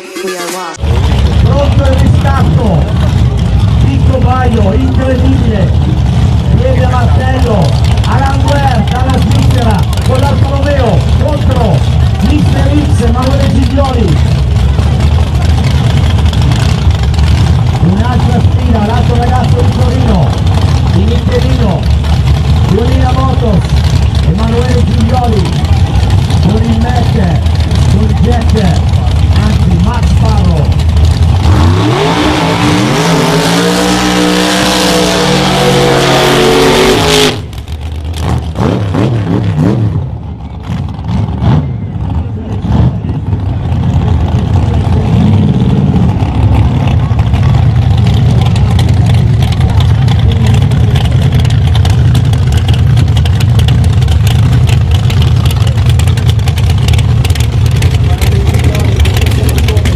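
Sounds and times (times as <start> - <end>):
low engine rumble: 0.0 - 59.9
racing car engines at full throttle: 0.0 - 59.9.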